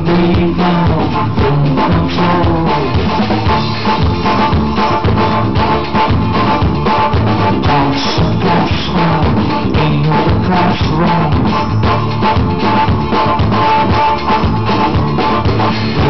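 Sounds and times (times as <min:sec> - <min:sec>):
drum kit and bass beat: 0:00.0 - 0:16.0
live band playing: 0:00.0 - 0:16.0.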